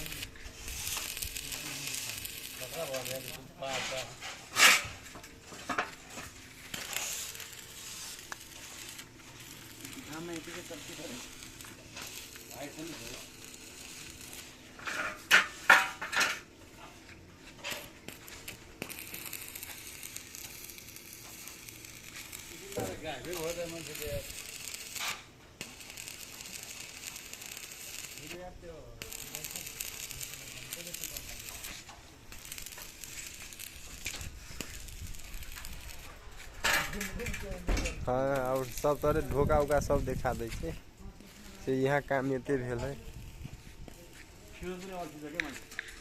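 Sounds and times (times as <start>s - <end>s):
welding arc hissing: 0.0s - 46.0s.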